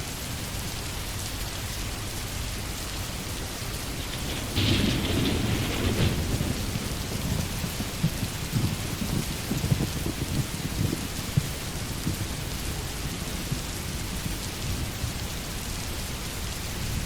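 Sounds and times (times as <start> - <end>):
heavy rain: 0.0 - 17.0
thunder rumbling: 1.4 - 17.0.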